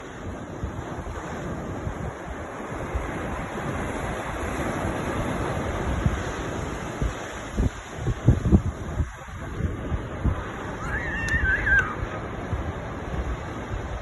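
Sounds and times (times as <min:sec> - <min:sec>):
sea waves washing onto shore: 0:00.0 - 0:14.0
wind rumbling on microphone: 0:00.0 - 0:14.0.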